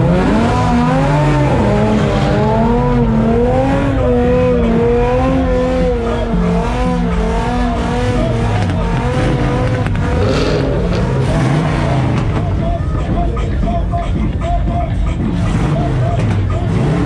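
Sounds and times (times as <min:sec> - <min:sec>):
car engine at high revs: 0:00.0 - 0:17.0
tires squealing: 0:00.0 - 0:17.0.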